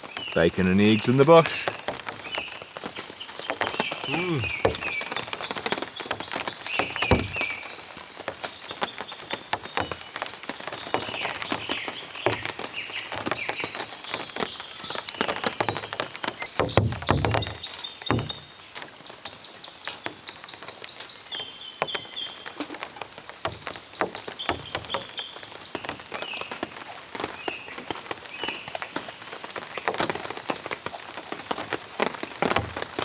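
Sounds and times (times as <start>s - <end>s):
rain drips pattering: 0.0s - 33.0s.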